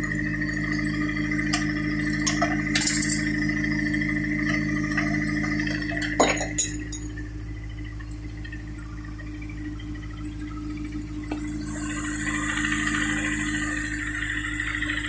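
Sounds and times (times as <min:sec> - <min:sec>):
car engine humming: 0:00.0 - 0:15.0.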